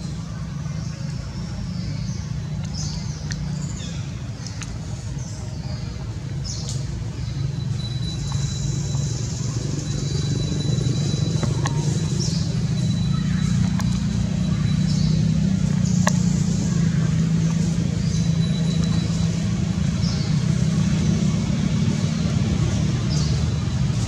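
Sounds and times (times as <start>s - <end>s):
low motor rumble: 0.0s - 24.0s.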